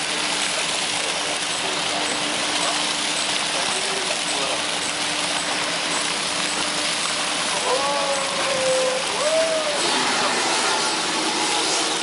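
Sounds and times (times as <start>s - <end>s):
choppy sea water rushing: 0.0s - 12.0s
low machinery hum: 0.0s - 12.0s.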